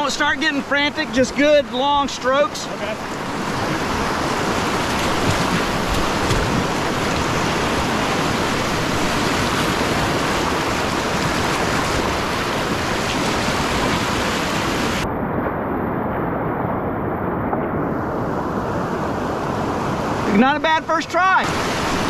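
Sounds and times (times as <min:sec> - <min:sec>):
whitewater rapid roaring: 0:00.0 - 0:22.0.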